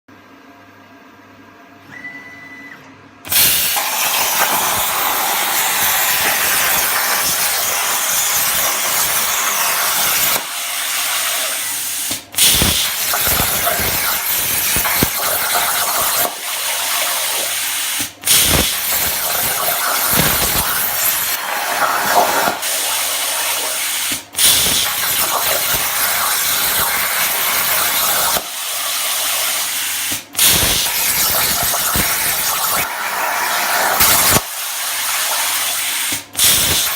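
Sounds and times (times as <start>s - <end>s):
plasma cutter hissing arc: 3.3s - 36.9s.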